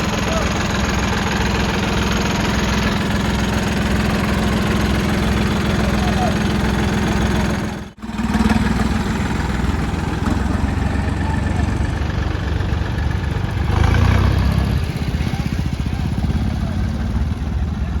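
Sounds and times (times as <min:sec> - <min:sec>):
diesel tractor engine running: 0:00.0 - 0:18.0.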